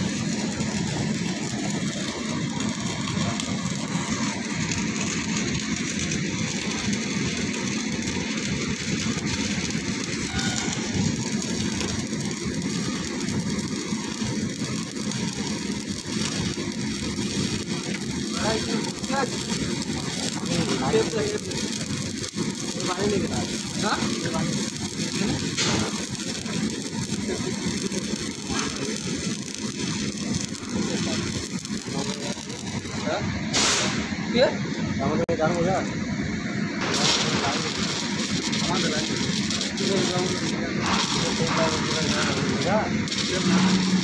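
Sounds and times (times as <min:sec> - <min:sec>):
welding arc crackling: 0:00.0 - 0:44.0.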